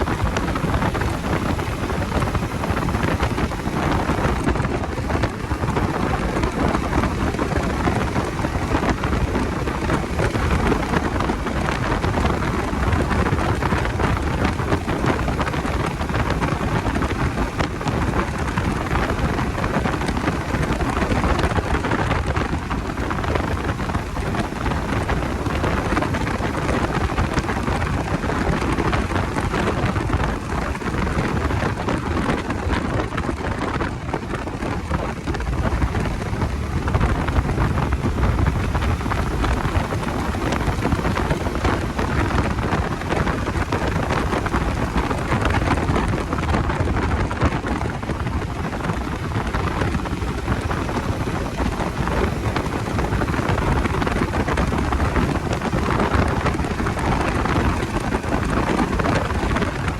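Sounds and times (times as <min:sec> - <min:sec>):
road noise: 0:00.0 - 0:59.9
wind rushing on microphone: 0:00.0 - 0:59.9.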